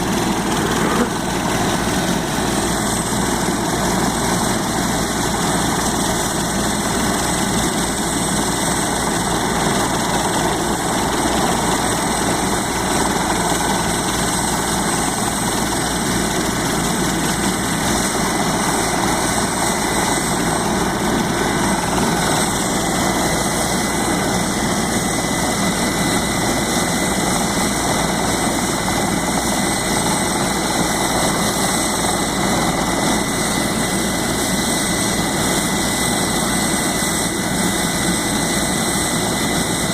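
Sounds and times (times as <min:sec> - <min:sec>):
helicopter engine roaring: 0:00.0 - 0:39.9.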